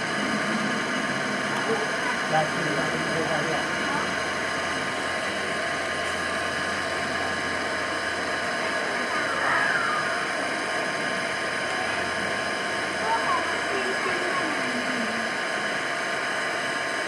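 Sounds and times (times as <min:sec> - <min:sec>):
distant voices murmuring: 0:00.0 - 0:15.7
outdoor background din: 0:00.0 - 0:17.0.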